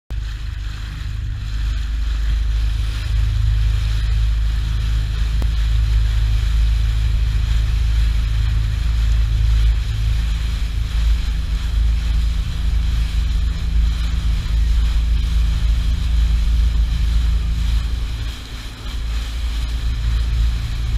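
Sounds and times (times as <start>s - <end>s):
outboard motor running: 0.1s - 20.9s
water rushing past hull: 0.1s - 20.9s
wind buffeting microphone: 0.1s - 20.9s.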